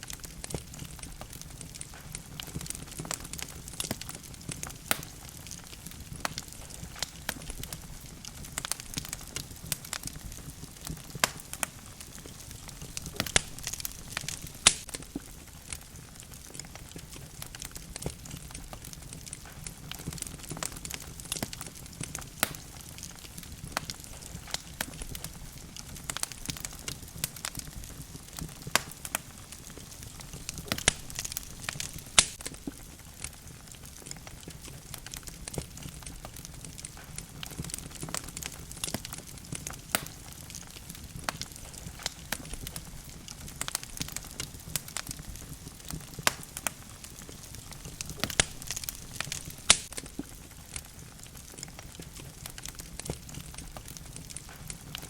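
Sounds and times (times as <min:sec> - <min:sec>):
logs crackling and popping: 0:00.0 - 0:55.0
low hiss of flames: 0:00.0 - 0:55.0.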